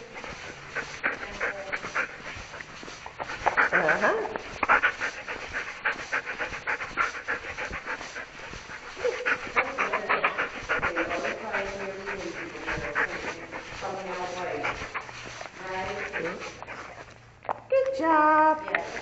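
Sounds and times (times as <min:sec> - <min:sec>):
dog panting: 0:00.0 - 0:17.6, 0:18.6 - 0:19.0.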